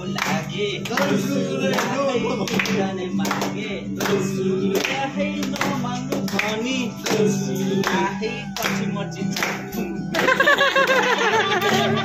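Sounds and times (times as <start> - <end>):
acoustic guitar strumming: 0.0 - 12.0
group of people singing: 0.0 - 12.0
hands clapping: 0.0 - 12.0.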